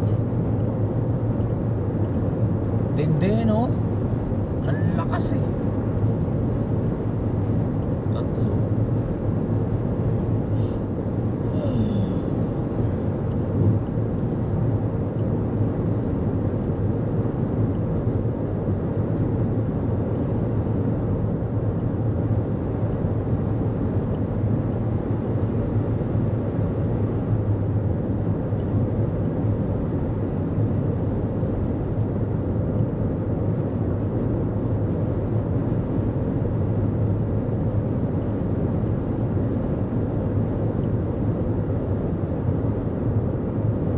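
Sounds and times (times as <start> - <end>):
car road noise at highway speed: 0.0 - 43.9.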